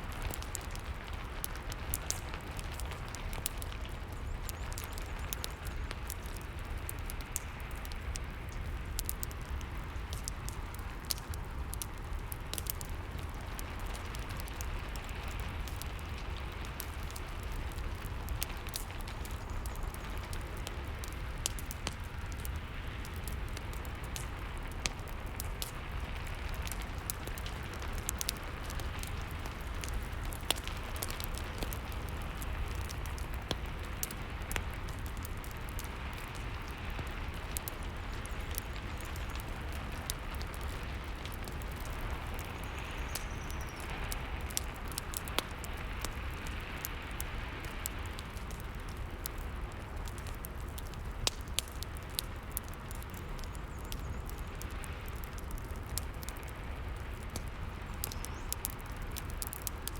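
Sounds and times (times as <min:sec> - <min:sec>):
fire crackling: 0:00.0 - 0:59.9
rain hiss: 0:00.0 - 0:59.9.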